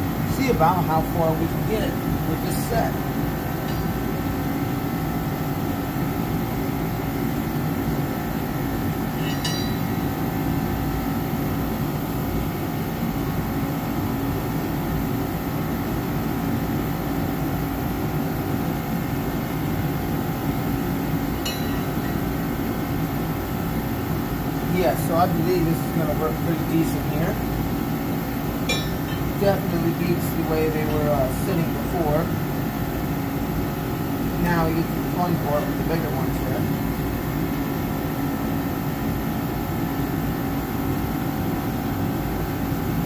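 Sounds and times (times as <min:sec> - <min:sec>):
heater blowing and humming: 0:00.0 - 0:43.0.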